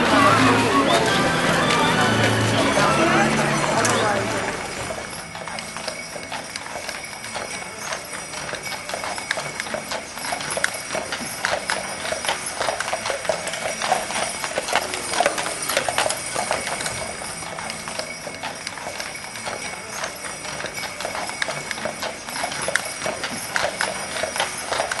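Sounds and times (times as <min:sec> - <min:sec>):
horse hooves clip-clopping: 0:00.0 - 0:25.0.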